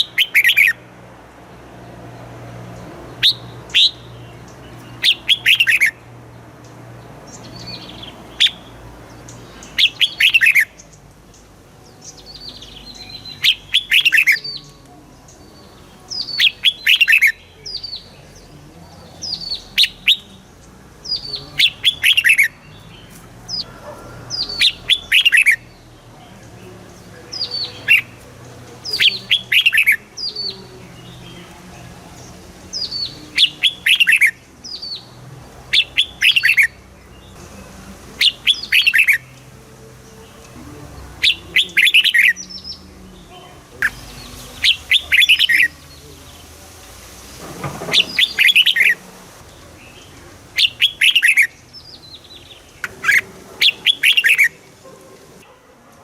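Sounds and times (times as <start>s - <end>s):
bulbul singing: 0.0s - 55.6s.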